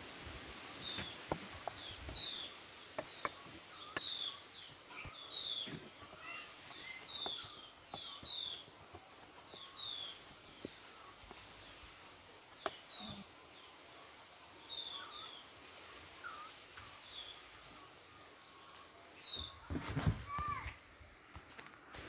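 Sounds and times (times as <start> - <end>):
small birds chirping: 0.5 - 19.8.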